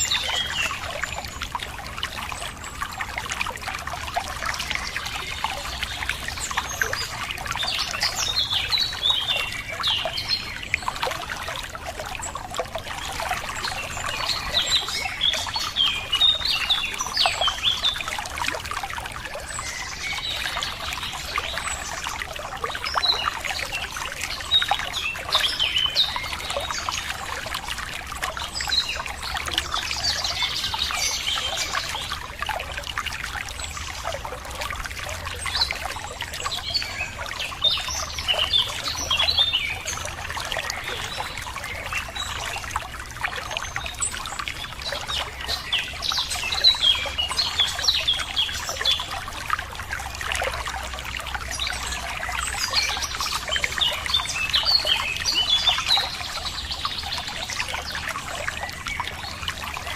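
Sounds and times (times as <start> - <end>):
water running over stones: 0.0 - 59.9.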